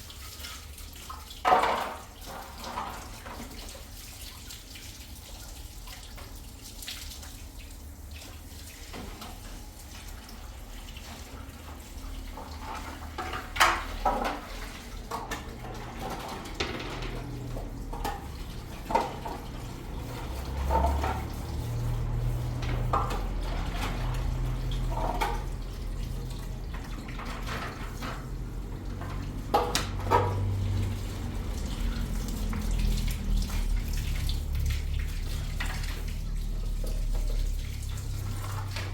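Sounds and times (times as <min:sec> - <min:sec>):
water running: 0:00.0 - 0:38.9.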